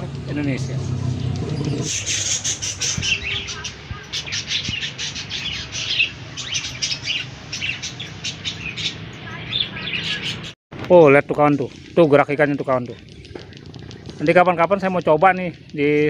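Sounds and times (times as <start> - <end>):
small birds chirping: 0.2 - 10.6, 11.4 - 16.0.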